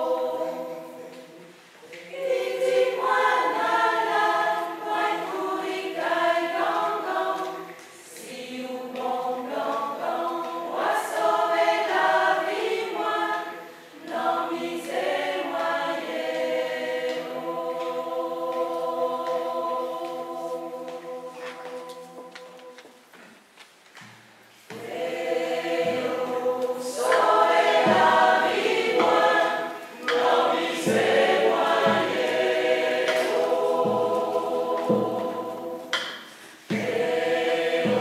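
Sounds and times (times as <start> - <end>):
mixed choir singing in harmony: 0.0 - 23.2, 24.7 - 38.0.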